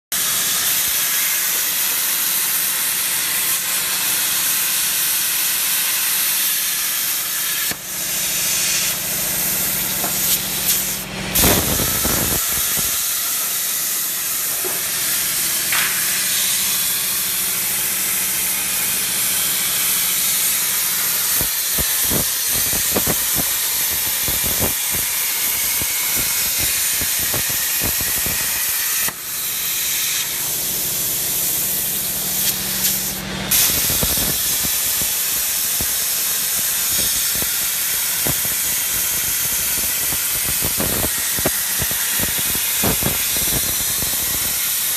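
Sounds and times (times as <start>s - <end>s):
plasma cutter hissing: 0.1s - 44.9s.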